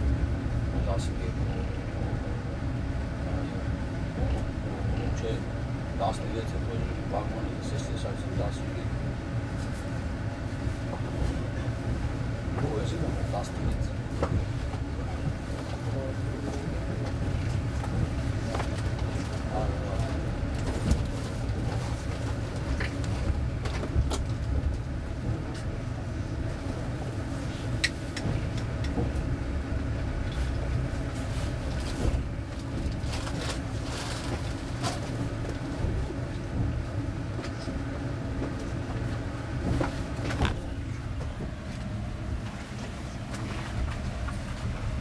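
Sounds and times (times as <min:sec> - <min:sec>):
train carriage rumble: 0:00.0 - 0:45.0.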